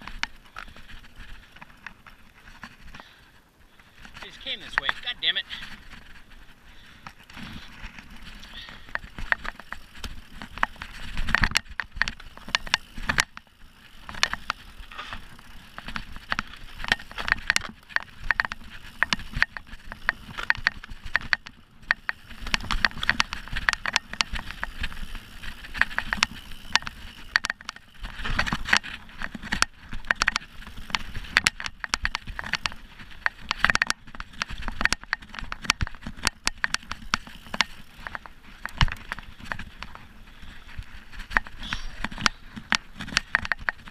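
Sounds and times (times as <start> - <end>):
bike rattling and knocking: 0.0 - 43.9
bike tyres rolling on dirt: 0.0 - 43.9.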